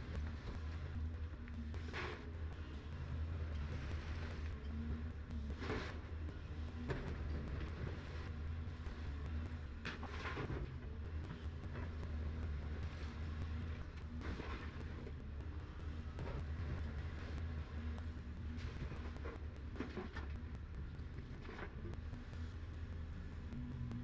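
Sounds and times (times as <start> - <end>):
excavator diesel engine humming: 0.0 - 24.0
excavator working noises: 0.0 - 24.0.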